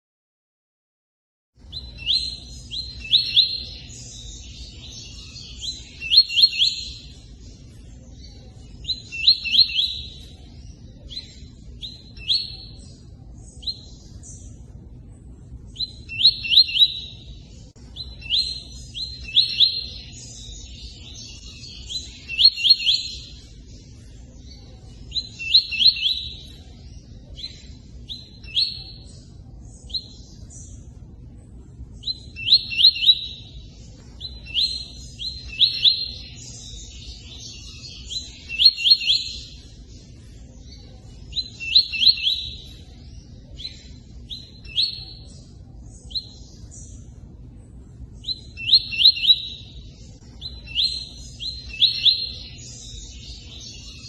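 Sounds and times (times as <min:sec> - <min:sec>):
bird chirping: 0:01.6 - 0:54.0.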